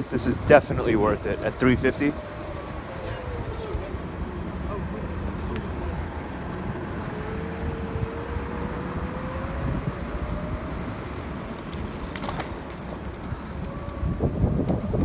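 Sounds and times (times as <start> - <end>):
electric scooter whine: 0.0 - 15.0
wind and road noise: 0.0 - 15.0.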